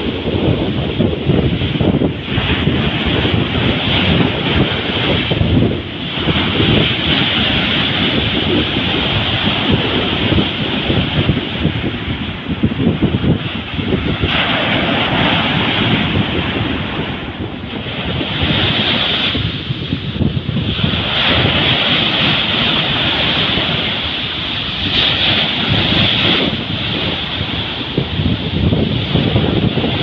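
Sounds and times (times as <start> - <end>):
waves breaking on beach: 0.0 - 30.0
wind on microphone: 0.0 - 30.0.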